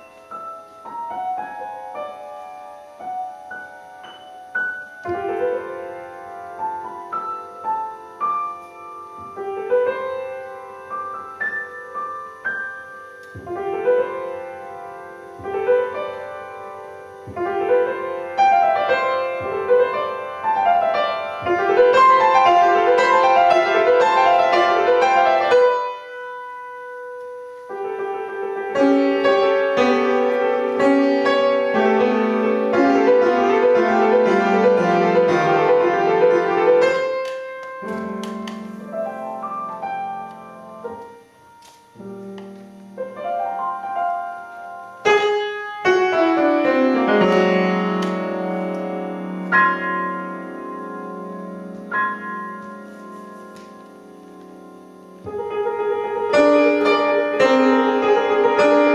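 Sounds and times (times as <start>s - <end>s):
solo piano piece: 0.0s - 58.9s.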